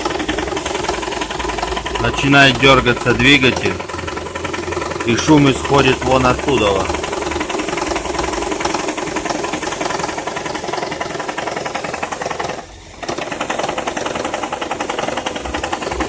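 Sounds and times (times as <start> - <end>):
car engine running: 0.0 - 16.0
rapid engine knocking: 0.0 - 16.0.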